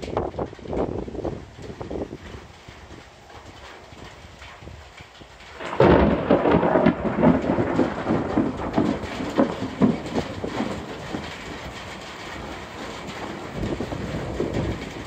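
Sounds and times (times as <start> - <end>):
rain hissing: 0.0 - 15.0
thunderclap and rumble: 0.0 - 15.0.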